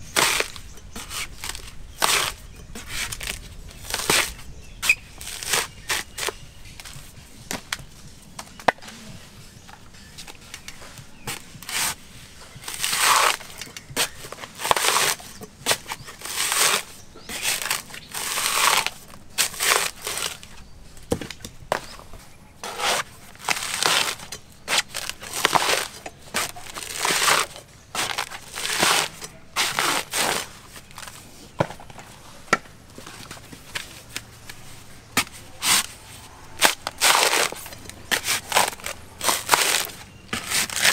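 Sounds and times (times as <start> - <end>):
coconut husk tearing: 0.0 - 40.9.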